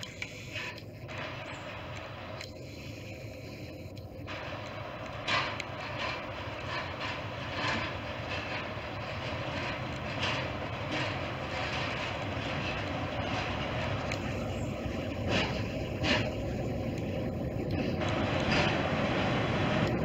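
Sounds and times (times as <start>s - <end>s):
diesel locomotive engine droning: 0.0s - 20.0s
wheels clattering on track: 0.0s - 20.0s.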